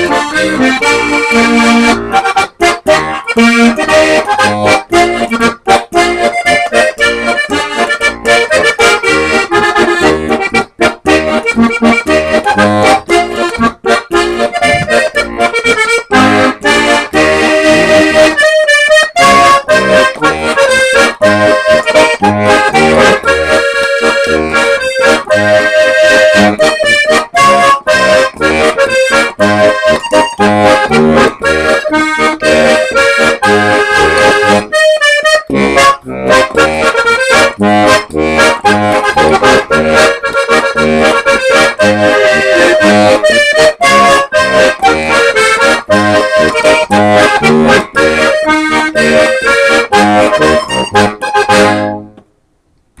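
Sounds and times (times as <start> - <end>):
button accordion playing polka: 0.0 - 52.2.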